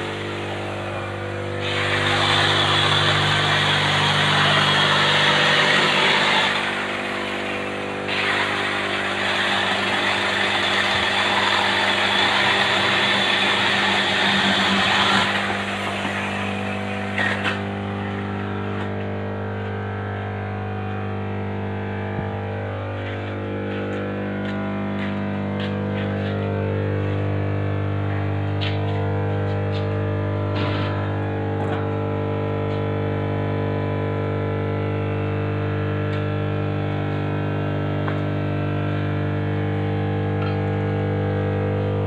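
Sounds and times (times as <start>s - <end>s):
machine motor humming: 0.0s - 42.0s.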